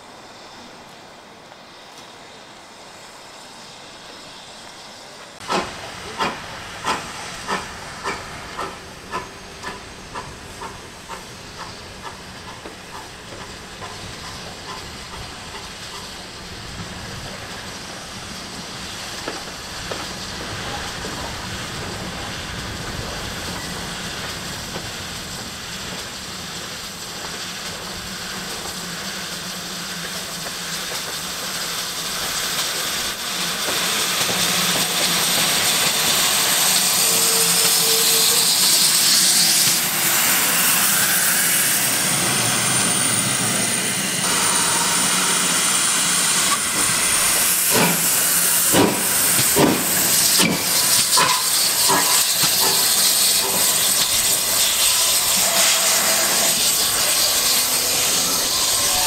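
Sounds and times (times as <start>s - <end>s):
rush of steam and train: 0.0s - 59.0s
steam locomotive chuffing: 0.0s - 59.0s.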